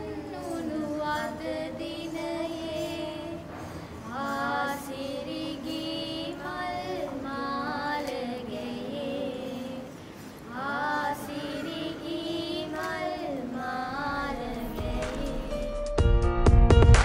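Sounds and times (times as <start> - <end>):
girls singing together: 0.0 - 15.9.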